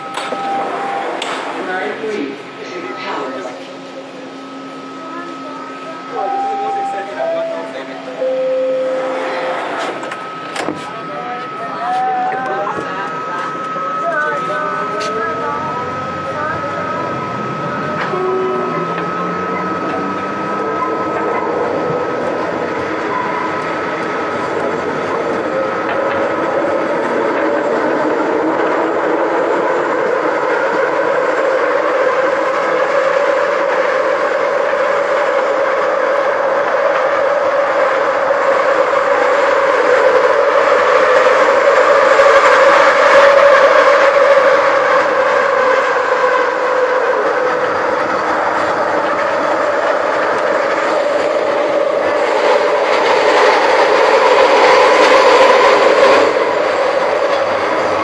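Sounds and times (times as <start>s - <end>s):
train motor whine: 0.0s - 58.0s
wheel and rail noise: 0.0s - 58.0s.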